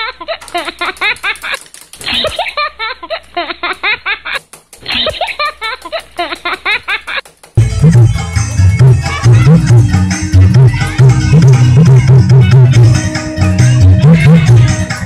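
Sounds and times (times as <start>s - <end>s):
high-pitched giggling laughter: 0.0s - 7.2s, 9.0s - 14.8s.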